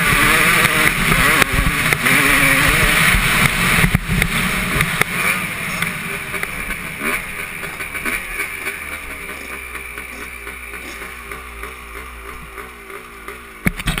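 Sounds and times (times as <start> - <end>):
dirt bike engines: 0.0 - 14.0.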